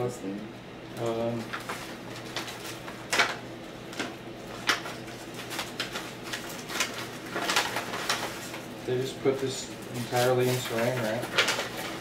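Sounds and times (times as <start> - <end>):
packaging rustling and crinkling: 1.0 - 12.0.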